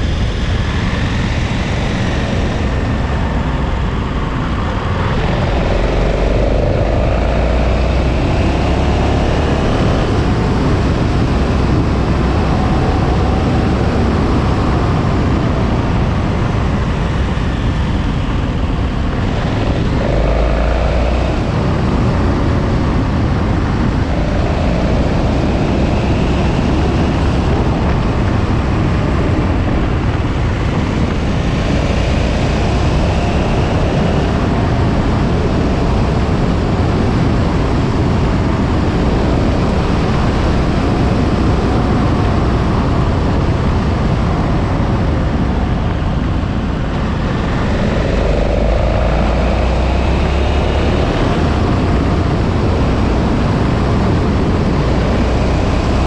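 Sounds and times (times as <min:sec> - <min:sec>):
motorcycle engine revving: 0:00.0 - 0:56.0
wind rushing on microphone: 0:00.0 - 0:56.0.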